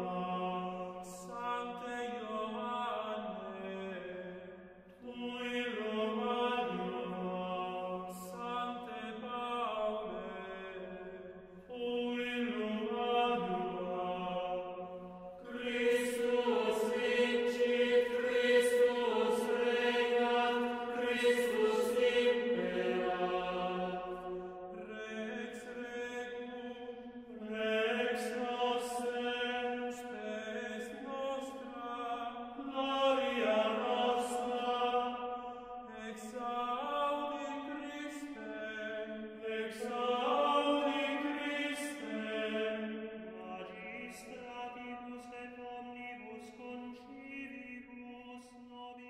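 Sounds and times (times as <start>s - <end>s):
voices chanting in unison: 0.0s - 45.3s.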